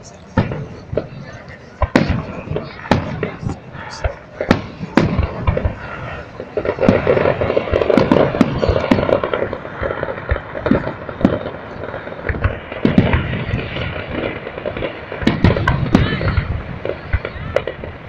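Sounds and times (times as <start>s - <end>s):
fireworks bangs and crackling: 0.0s - 18.0s
heavy firework booms: 0.3s - 18.0s.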